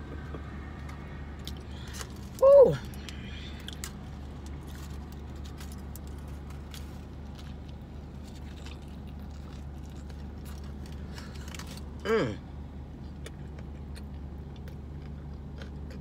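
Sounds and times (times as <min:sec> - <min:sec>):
person chewing food: 0:00.8 - 0:11.9, 0:13.0 - 0:16.0.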